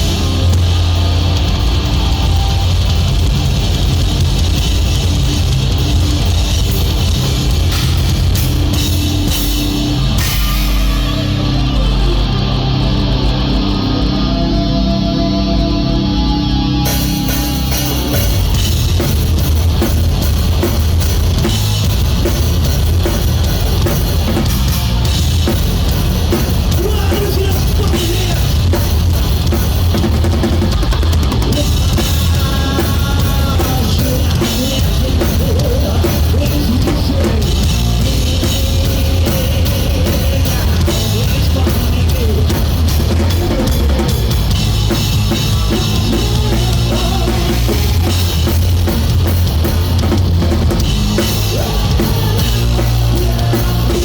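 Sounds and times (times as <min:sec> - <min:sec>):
drum kit: 0:00.0 - 0:54.0
live rock band playing: 0:00.0 - 0:54.0.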